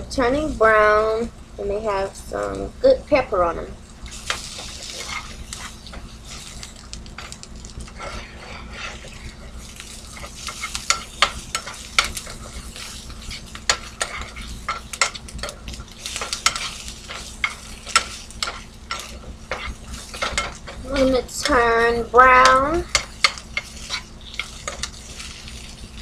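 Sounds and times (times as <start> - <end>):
onions sizzling in a skillet: 0.0 - 26.0
utensil clicking and scraping pan: 4.1 - 26.0.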